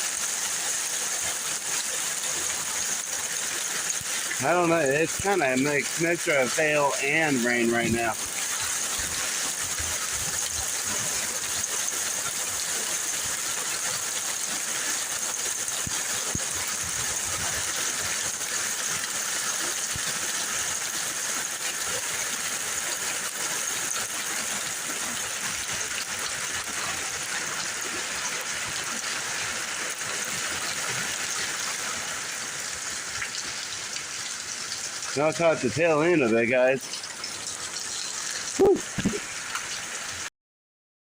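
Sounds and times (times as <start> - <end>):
heavy rain and hail: 0.0 - 40.3.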